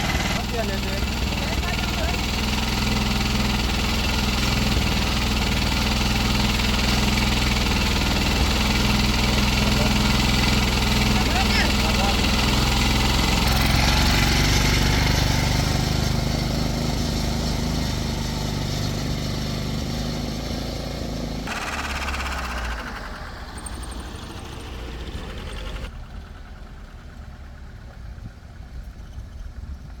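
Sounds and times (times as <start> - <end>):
motor tricycle engine running: 0.0 - 30.0.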